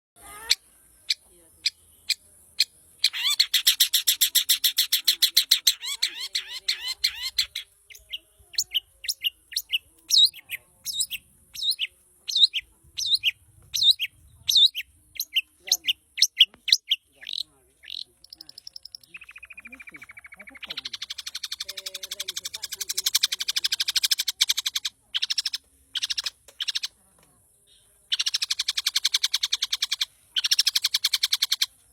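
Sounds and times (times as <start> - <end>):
bird singing: 0.2 - 31.9.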